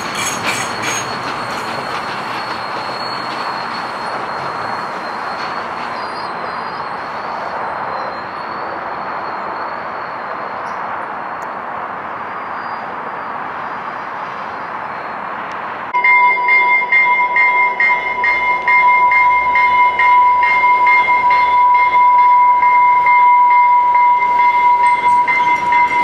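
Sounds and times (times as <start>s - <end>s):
train wheels rushing on rails: 0.0s - 12.0s, 13.4s - 26.0s.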